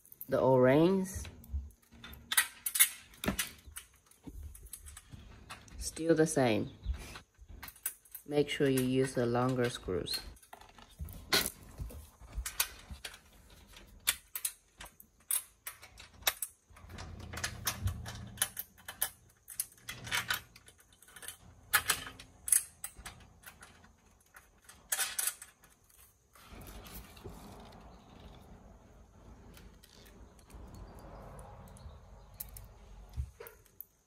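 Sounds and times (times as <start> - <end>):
clicks and knocks of screws: 1.3 - 5.8, 7.1 - 28.3, 29.5 - 34.0.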